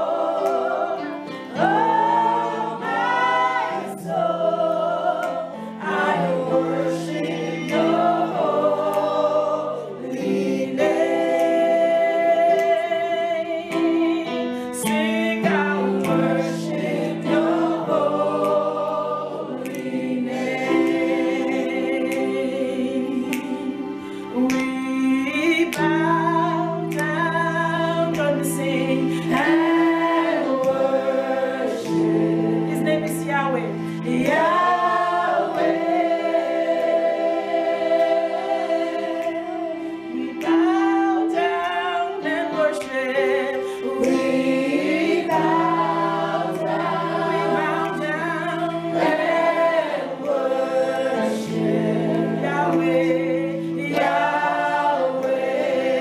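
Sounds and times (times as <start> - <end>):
woman singing worship song: 0.0 - 56.0.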